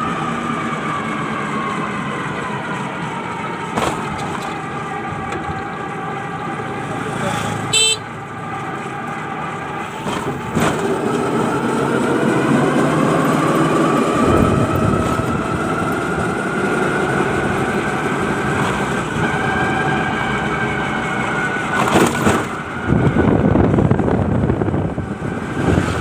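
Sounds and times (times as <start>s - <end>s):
engine whine rising in pitch: 0.0s - 26.0s
vehicle engine rumbling: 0.0s - 26.0s.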